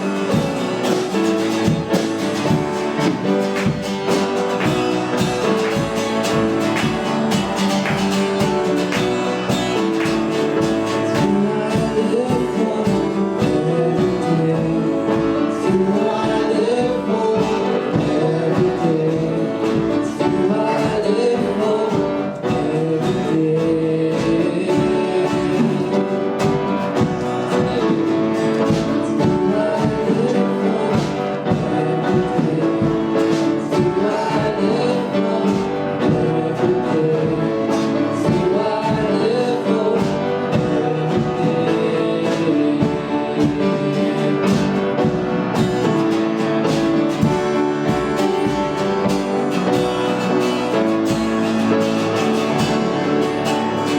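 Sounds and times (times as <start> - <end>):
guitar accompaniment: 0.0 - 53.9
people singing worship song: 0.0 - 53.9.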